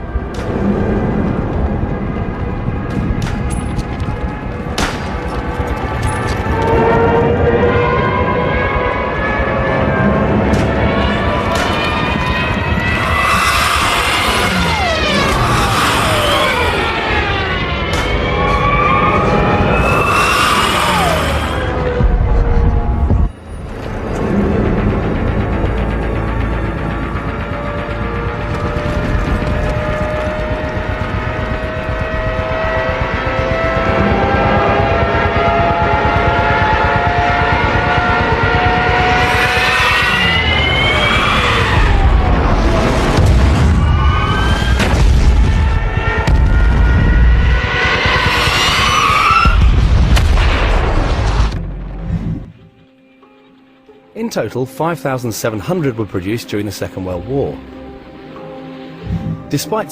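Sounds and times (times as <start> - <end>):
dive bomber sirens wailing: 0.0 - 51.0
aircraft engines rumbling: 0.0 - 59.9.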